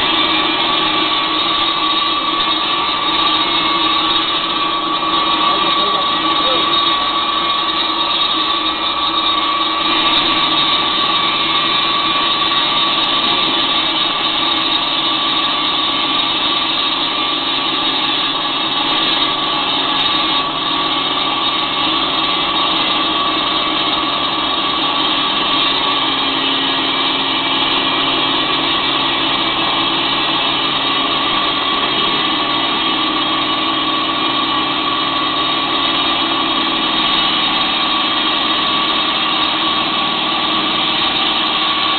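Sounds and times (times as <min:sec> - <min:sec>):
concrete saw high whine: 0:00.0 - 0:41.9.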